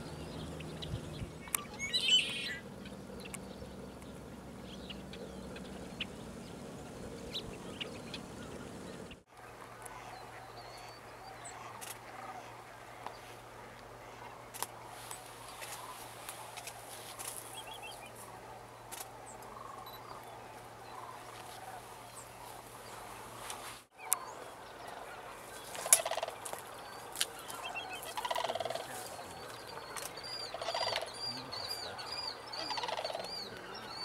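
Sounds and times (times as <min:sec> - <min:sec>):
cranes calling: 0:00.0 - 0:18.2, 0:19.0 - 0:34.0.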